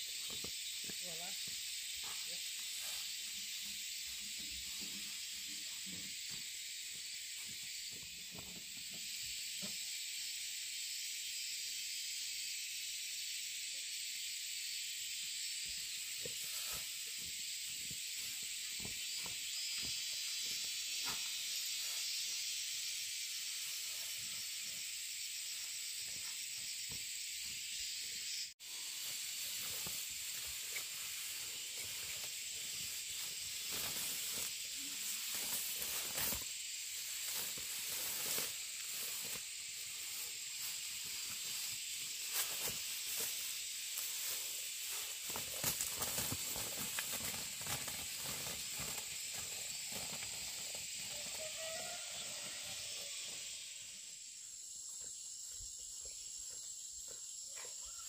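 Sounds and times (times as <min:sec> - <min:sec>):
steady high hiss: 0:00.0 - 0:54.8.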